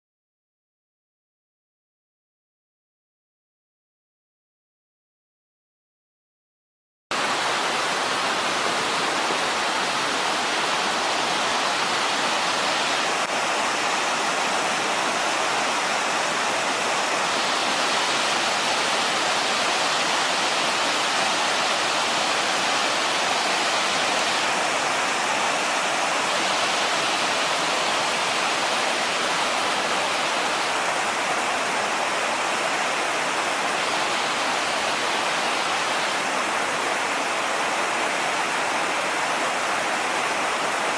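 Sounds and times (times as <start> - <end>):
waterfall rushing: 7.1 - 40.9.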